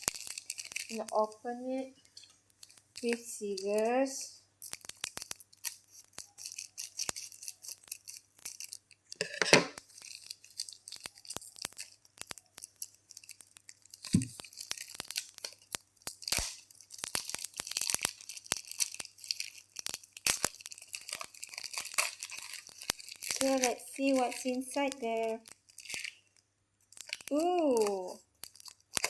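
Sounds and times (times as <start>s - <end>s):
wrapper tearing: 0.0s - 1.4s, 2.6s - 8.9s, 9.8s - 29.0s
scissors cutting plastic wrapper: 0.0s - 1.8s, 2.6s - 26.2s, 26.8s - 29.0s
plastic wrapper crinkling: 0.0s - 9.1s, 9.8s - 29.0s.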